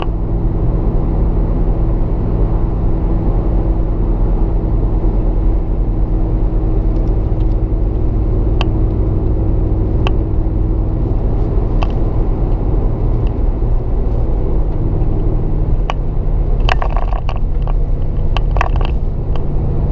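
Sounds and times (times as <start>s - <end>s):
car engine low rumble: 0.0s - 19.9s.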